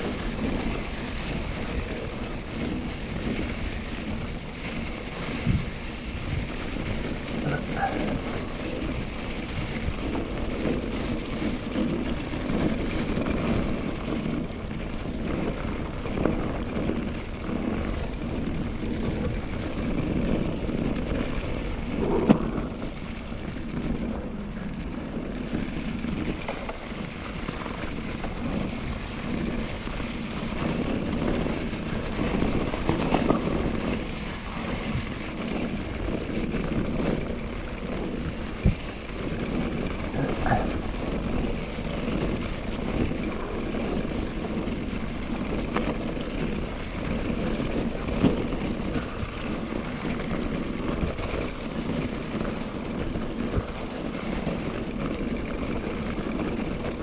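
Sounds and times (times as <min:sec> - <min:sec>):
bike tyres rolling over dry leaves: 0:00.0 - 0:57.0.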